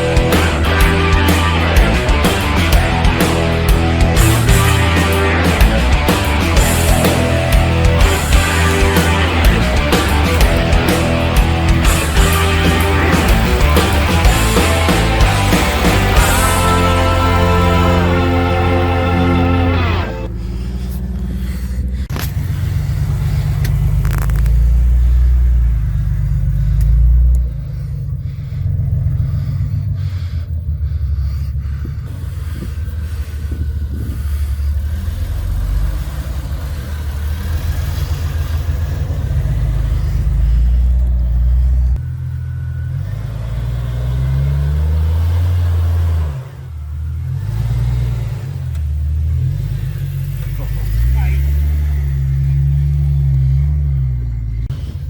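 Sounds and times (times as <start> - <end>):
off-road vehicle engine rumbling: 0.0 - 55.0.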